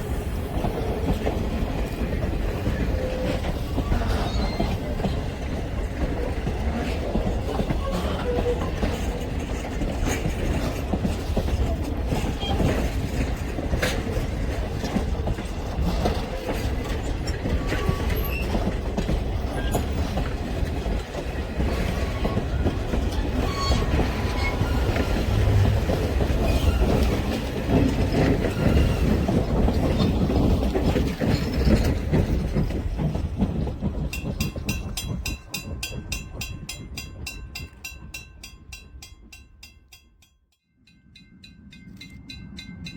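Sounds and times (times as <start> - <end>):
train rumble: 0.0 - 40.1
train wheels clicking over rail joints: 0.0 - 40.1.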